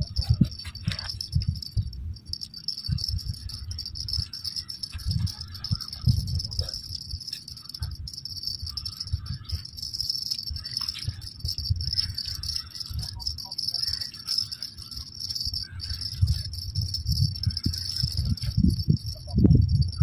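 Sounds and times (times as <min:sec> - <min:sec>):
low rumbling: 0:00.0 - 0:20.0
night insects chorus: 0:00.0 - 0:20.0.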